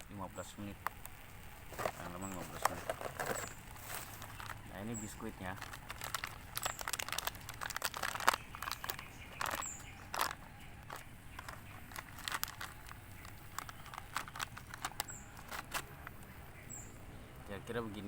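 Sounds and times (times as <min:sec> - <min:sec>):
biscuit packet crinkling: 0:00.4 - 0:16.2.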